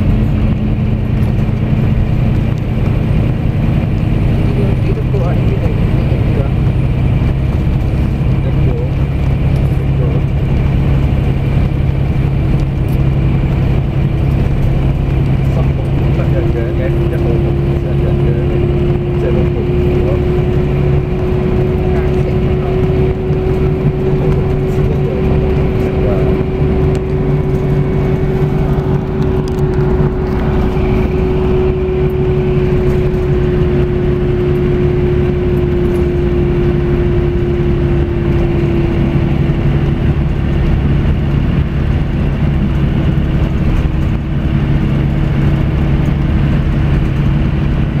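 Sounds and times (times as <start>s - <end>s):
bus engine drone: 0.0s - 48.0s
road noise: 0.0s - 48.0s
whine: 0.0s - 48.0s.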